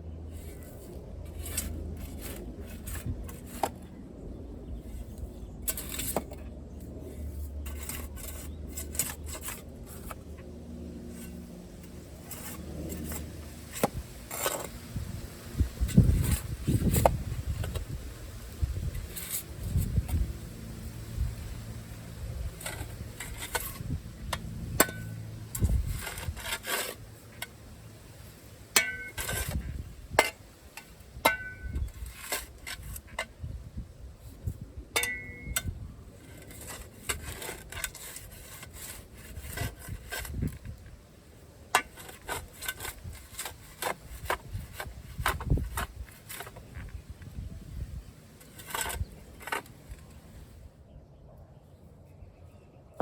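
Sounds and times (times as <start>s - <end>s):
scraping and rubbing: 0.2s - 33.4s, 34.2s - 41.0s, 41.6s - 50.6s.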